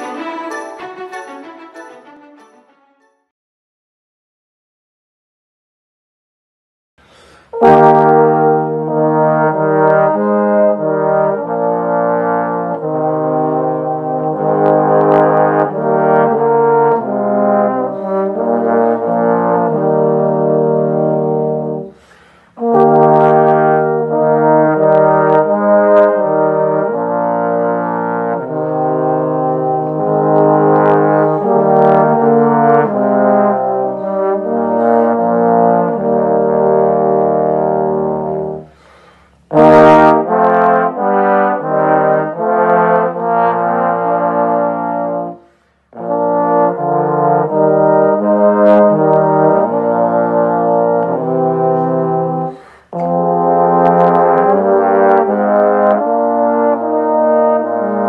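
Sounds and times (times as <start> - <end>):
trombones playing in harmony: 0.0 - 3.1, 7.6 - 58.0.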